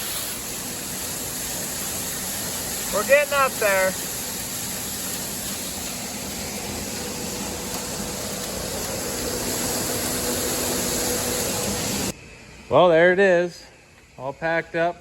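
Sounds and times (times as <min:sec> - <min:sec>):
machinery fan rushing: 0:00.0 - 0:13.5.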